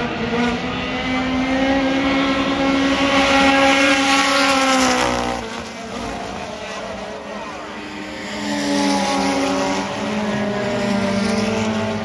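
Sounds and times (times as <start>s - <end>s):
race car engine passing by: 0.0s - 12.0s.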